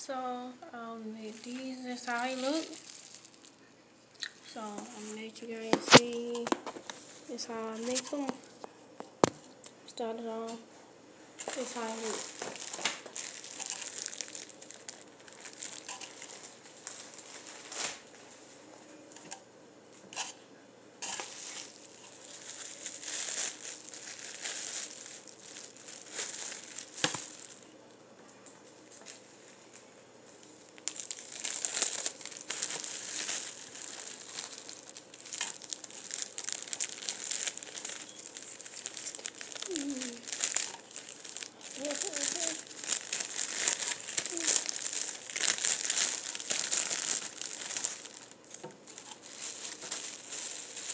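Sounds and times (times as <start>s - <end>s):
plastic wrap crinkling: 1.2s - 9.5s, 11.4s - 18.6s, 21.0s - 27.8s, 28.7s - 50.9s.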